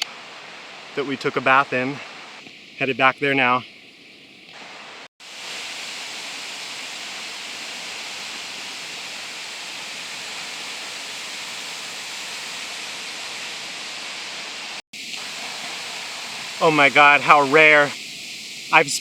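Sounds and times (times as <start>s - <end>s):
waterfall rushing: 0.0s - 2.4s, 4.5s - 19.0s.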